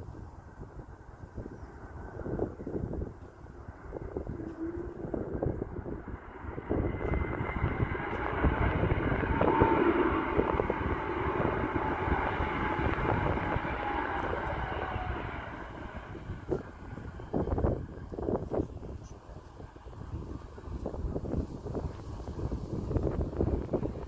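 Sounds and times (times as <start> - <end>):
jet airliner engines passing: 0.0 - 24.0.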